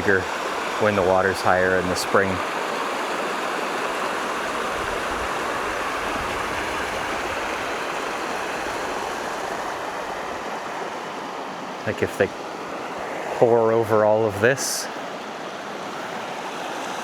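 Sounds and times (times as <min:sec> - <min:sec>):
small waterfall rushing over rock: 0:00.0 - 0:11.8, 0:15.0 - 0:17.0.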